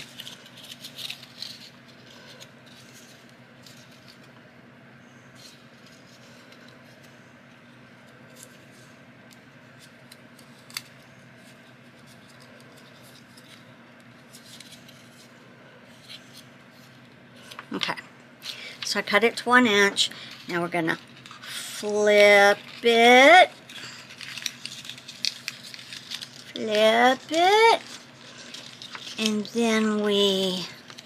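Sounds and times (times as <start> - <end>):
paper crinkling and clicking: 0.0 - 4.4, 5.4 - 15.3, 20.2 - 31.0
steady low hum: 0.0 - 31.0.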